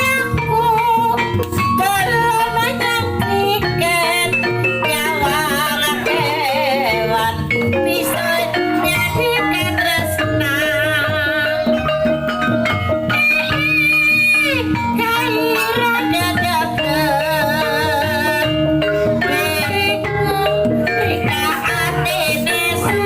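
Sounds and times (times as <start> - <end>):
struck tuned percussion: 0.0 - 23.0
wavering high melodic notes: 0.0 - 23.0.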